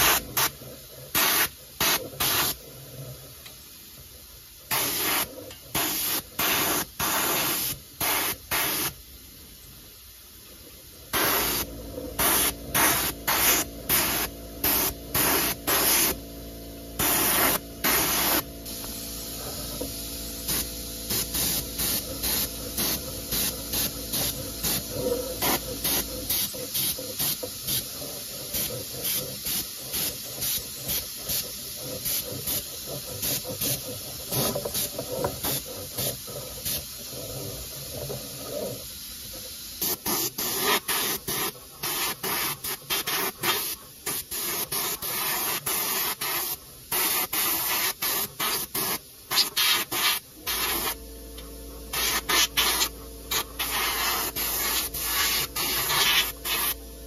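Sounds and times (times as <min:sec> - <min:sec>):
airbrush air hiss: 0:00.0 - 0:56.9.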